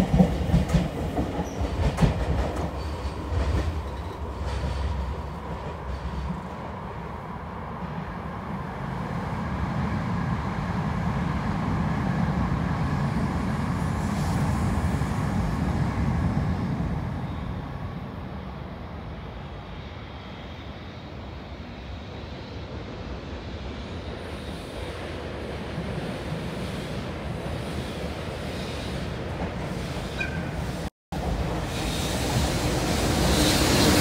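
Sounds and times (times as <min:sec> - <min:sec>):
distant trains rumbling: 0:00.0 - 0:34.0.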